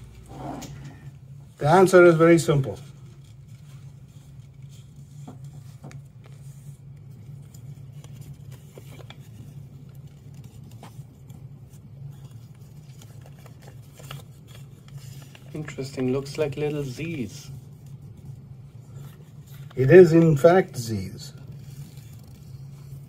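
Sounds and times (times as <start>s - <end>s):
steady low hum: 0.0s - 23.0s
paper bill crinkling: 1.7s - 23.0s.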